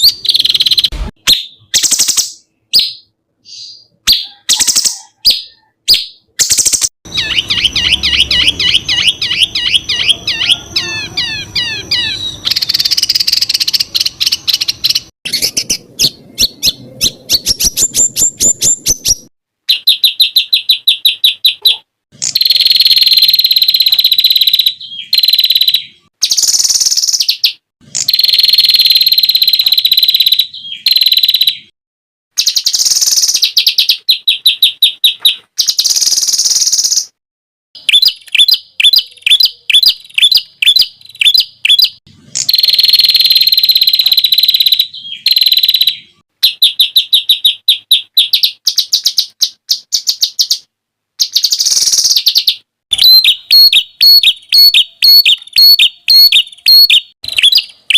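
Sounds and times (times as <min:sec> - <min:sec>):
songbirds singing fast trills: 0:00.0 - 0:31.7, 0:32.4 - 0:37.2, 0:37.8 - 0:57.9.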